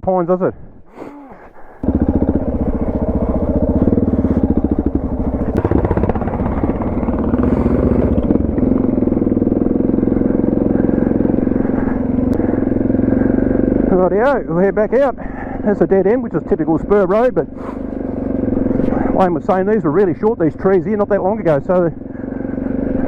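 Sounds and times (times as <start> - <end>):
motorcycle engine running: 1.6 - 23.0.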